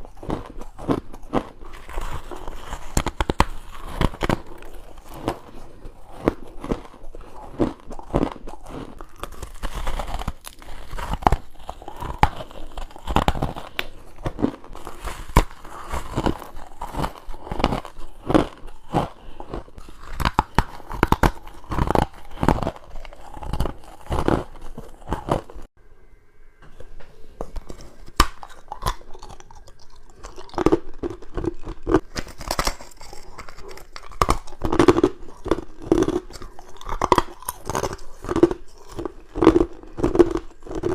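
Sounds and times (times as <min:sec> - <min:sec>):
crunchy chewing of ice: 0:00.0 - 0:25.7, 0:27.4 - 0:40.9.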